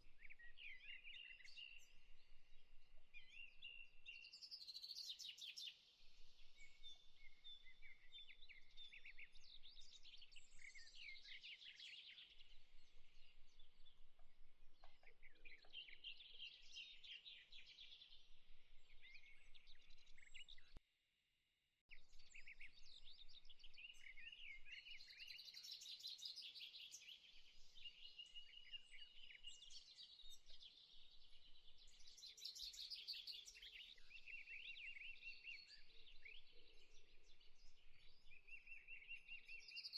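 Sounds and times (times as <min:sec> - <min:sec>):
small birds chirping and trilling: 0:00.0 - 0:20.8, 0:22.0 - 0:39.9.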